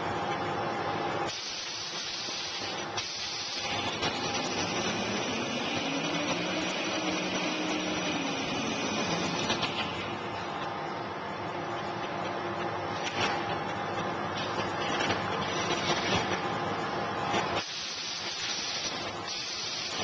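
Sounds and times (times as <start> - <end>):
paper machinery hissing and whirring: 0.0 - 20.0.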